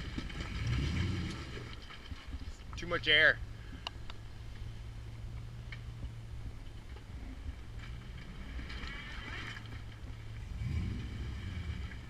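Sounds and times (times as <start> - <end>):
engine running low: 0.0 - 12.0.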